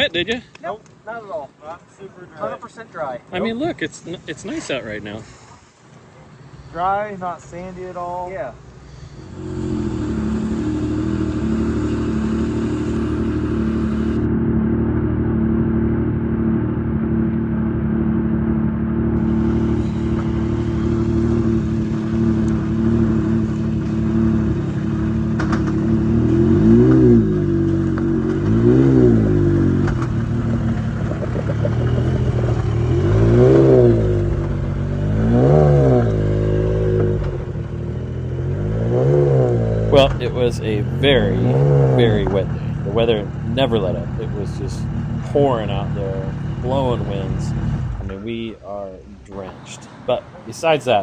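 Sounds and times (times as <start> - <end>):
utility vehicle engine revving: 3.4 - 51.0.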